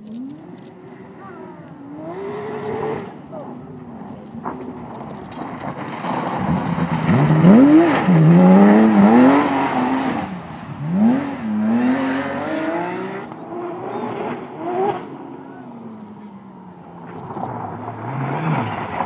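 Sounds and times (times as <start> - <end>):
rally car engines accelerating: 0.0 - 19.0.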